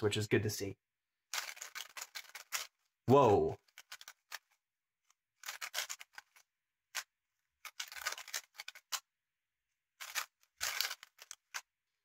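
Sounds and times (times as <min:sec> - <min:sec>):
puzzle cube plastic clicking: 0:01.2 - 0:09.2, 0:09.9 - 0:12.0.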